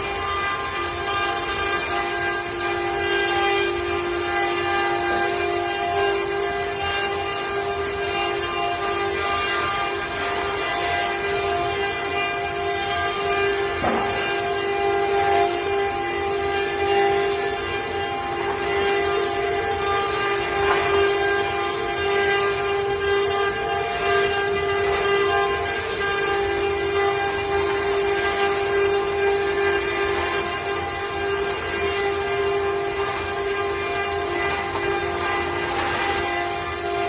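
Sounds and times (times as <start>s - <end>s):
router bit cutting wood: 0.0s - 37.0s
router spindle whine: 0.0s - 37.0s.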